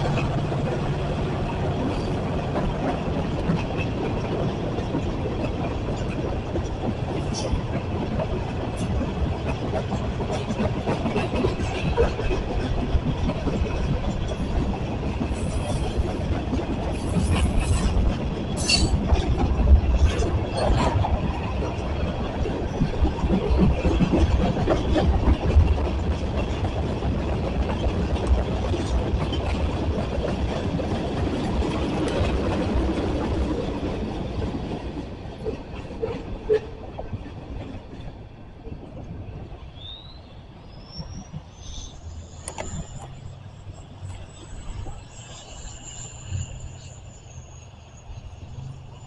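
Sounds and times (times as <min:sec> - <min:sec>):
train clacking over rail joints: 0:00.0 - 0:40.2.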